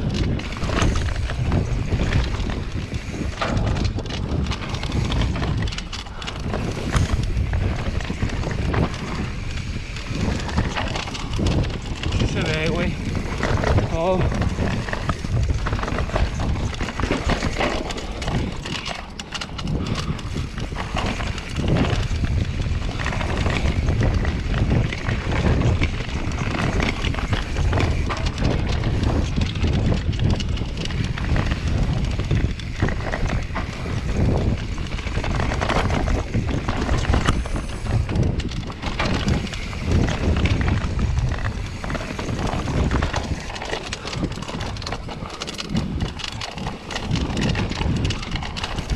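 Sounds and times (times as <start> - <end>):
mountain bike rattling over rocks: 0.0 - 48.9.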